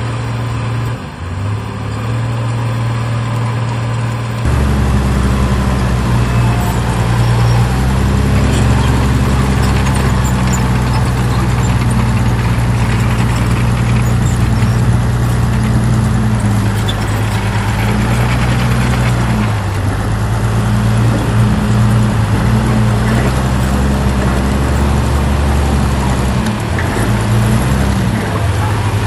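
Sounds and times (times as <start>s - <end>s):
diesel engine hum: 0.0s - 29.0s
machinery clatter: 4.3s - 29.0s.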